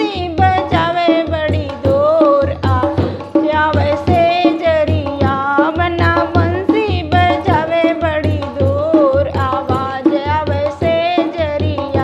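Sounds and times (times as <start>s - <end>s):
hand drum beat: 0.0s - 12.0s
woman singing: 0.0s - 12.0s.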